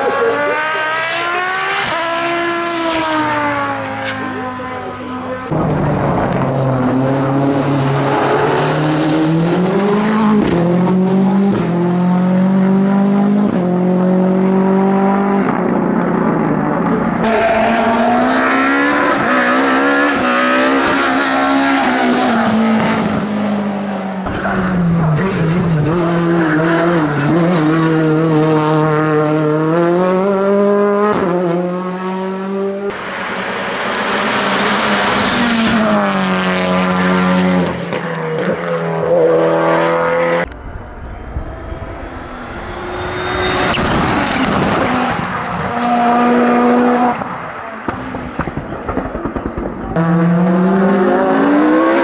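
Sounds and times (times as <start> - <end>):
race car engines revving: 0.0 - 52.0.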